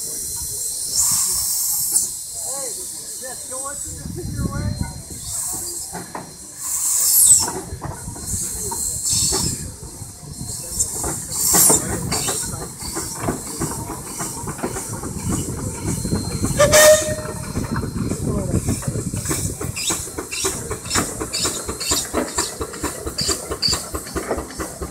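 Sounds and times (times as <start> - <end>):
hissing steam: 0.0 - 24.9.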